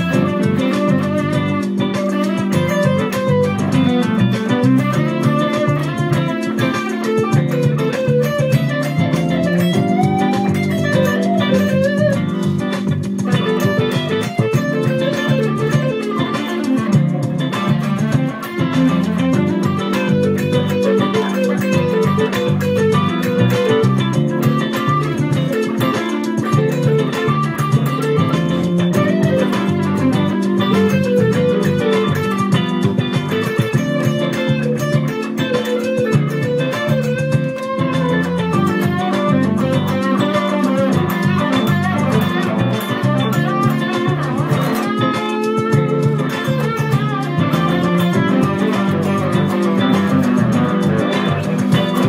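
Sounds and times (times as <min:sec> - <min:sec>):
bass line: 0:00.0 - 0:52.0
electric guitar lead: 0:00.0 - 0:52.0.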